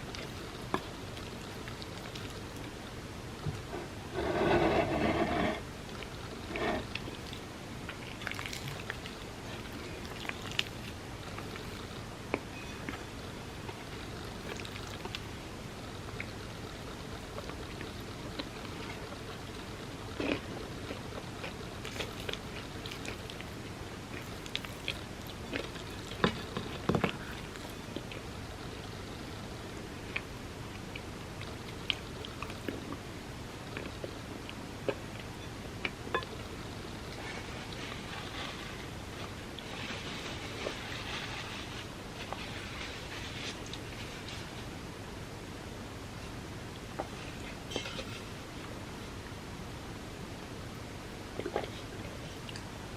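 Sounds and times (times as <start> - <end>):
chewing soft cake: 0.0 - 44.8, 51.3 - 52.9
steady background hiss: 0.0 - 52.9.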